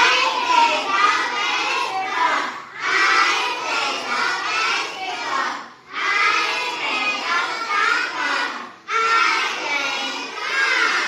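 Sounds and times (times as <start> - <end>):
children shouting together: 0.0 - 11.0.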